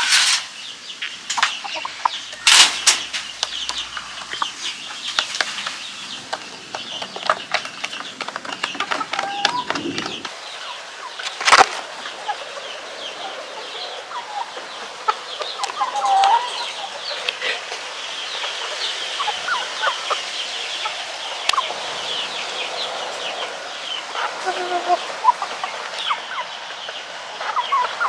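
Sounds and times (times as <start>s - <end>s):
chickens clucking: 0.0s - 28.0s
chicks peeping: 0.0s - 28.0s.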